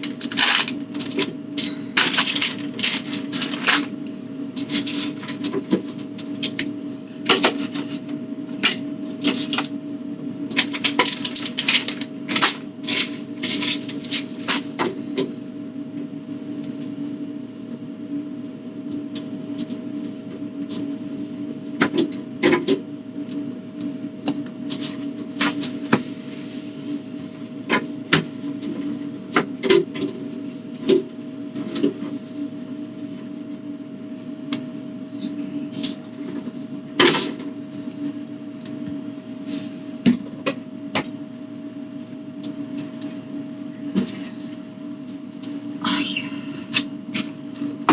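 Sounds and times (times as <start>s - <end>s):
refrigerator hum: 0.0s - 47.9s.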